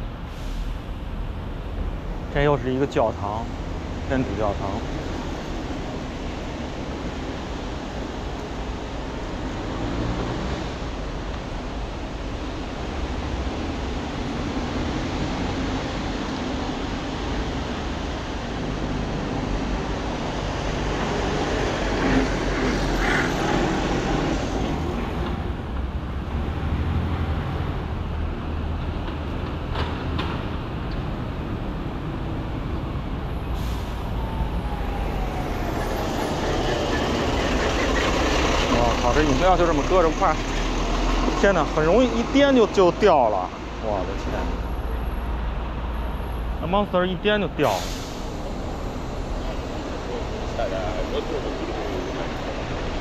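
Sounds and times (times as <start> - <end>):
traffic engine rumble: 0.0 - 53.0.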